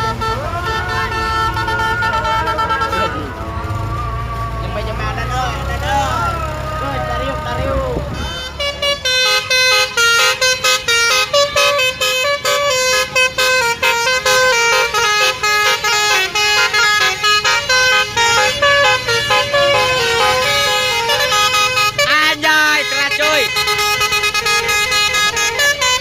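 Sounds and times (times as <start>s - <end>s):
musical horn playing a tune: 0.0s - 3.8s, 7.5s - 26.0s.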